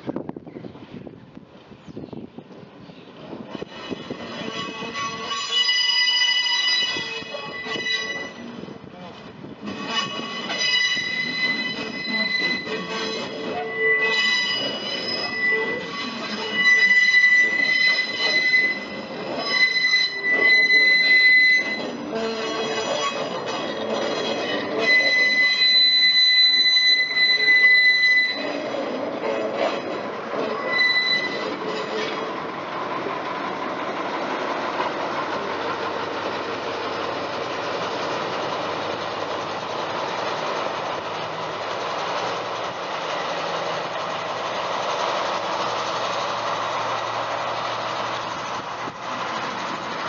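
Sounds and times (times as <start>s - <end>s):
train running along track: 0.0s - 50.0s
train wheels squealing on rails: 3.0s - 50.0s.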